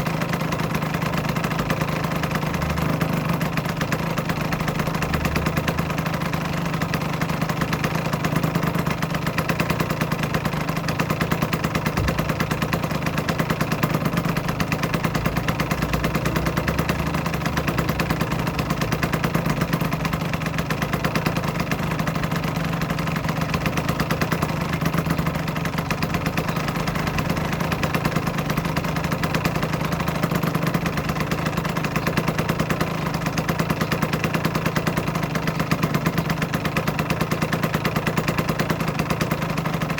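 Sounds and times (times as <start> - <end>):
two-stroke engine idling: 0.0 - 39.9.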